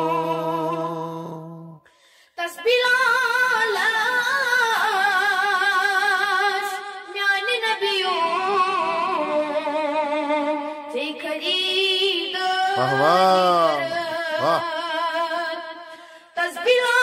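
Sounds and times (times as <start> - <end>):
boy singing: 0.0 - 1.5, 2.4 - 15.1, 16.4 - 17.0.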